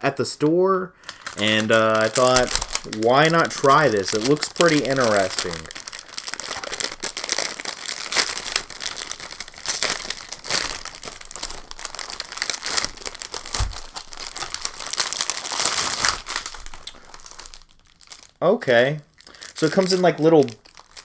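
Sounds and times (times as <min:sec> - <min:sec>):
plastic wrapper crinkling: 0:01.0 - 0:21.0.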